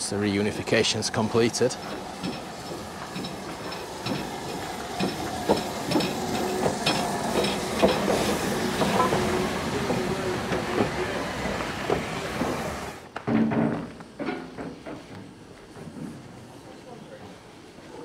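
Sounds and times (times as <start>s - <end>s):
train wheels clicking over rail joints: 0.0s - 16.8s.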